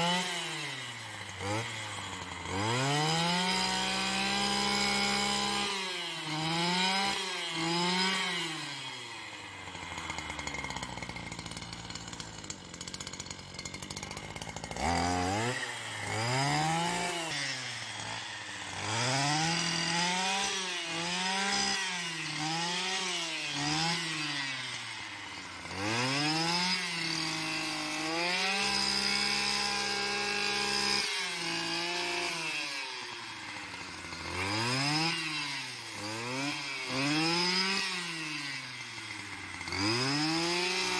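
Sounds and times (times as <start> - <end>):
brush cutter engine revving: 0.0 - 40.9.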